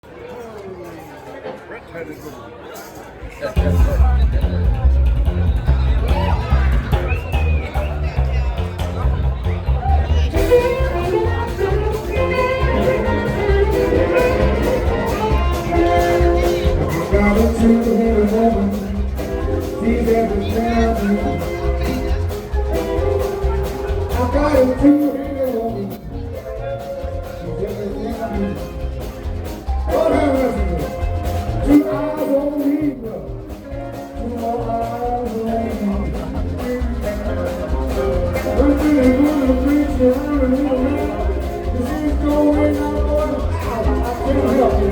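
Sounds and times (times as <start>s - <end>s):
bass: 3.3s - 44.9s
blues band playing: 3.3s - 44.9s
steady drum beat: 3.5s - 44.9s
lead guitar line: 3.6s - 44.9s.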